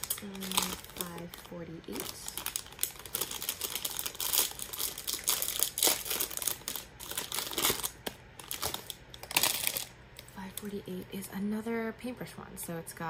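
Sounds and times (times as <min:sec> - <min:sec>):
plastic packet crinkling: 0:00.0 - 0:10.8.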